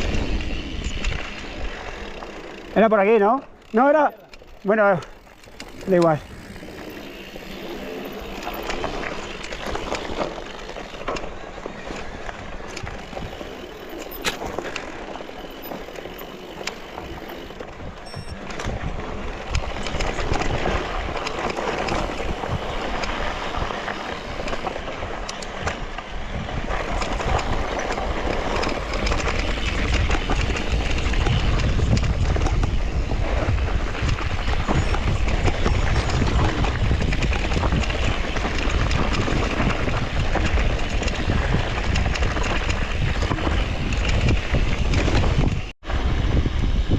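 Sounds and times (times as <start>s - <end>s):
bike tyres rolling on dirt: 0.0s - 46.9s
wind buffeting microphone: 4.6s - 10.1s, 12.6s - 46.9s.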